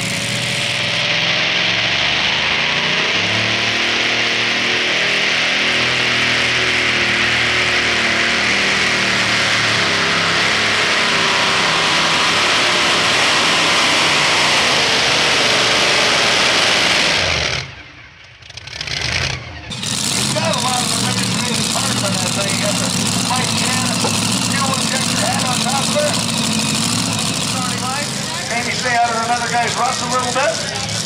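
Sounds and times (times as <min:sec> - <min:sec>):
supercharged truck engine at full throttle: 0:00.0 - 0:31.0.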